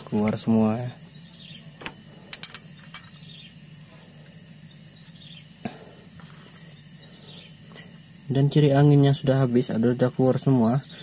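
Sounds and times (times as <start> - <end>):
faint outdoor chirping: 0.0 - 11.0.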